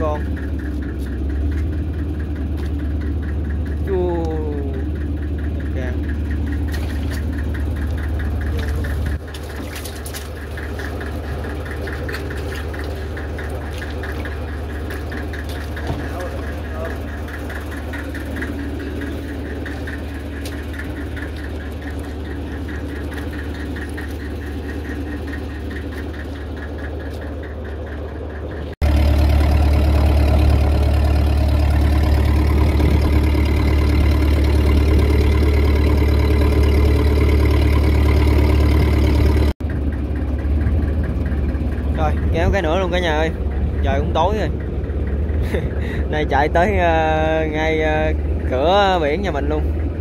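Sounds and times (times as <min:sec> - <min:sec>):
boat engine humming: 0:00.0 - 0:50.0.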